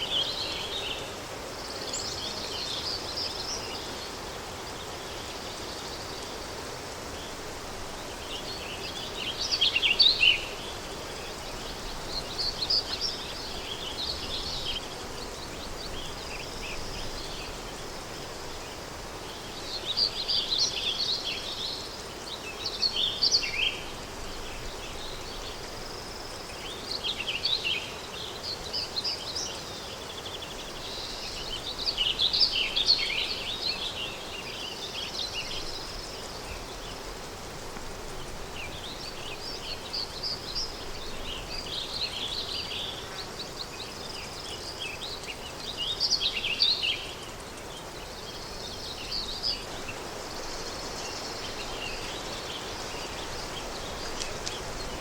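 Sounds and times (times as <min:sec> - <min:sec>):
songbirds chirping: 0:00.0 - 0:55.0
wind hiss: 0:00.0 - 0:55.0.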